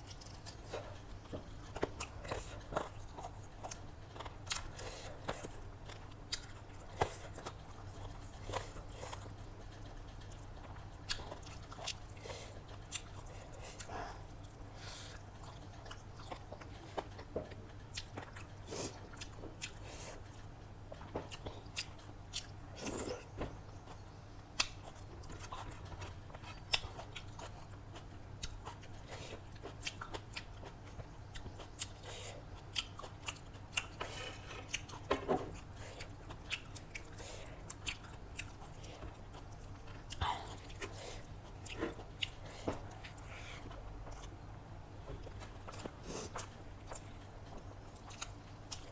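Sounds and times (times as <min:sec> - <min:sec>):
chewing and crunching: 0:00.0 - 0:48.9.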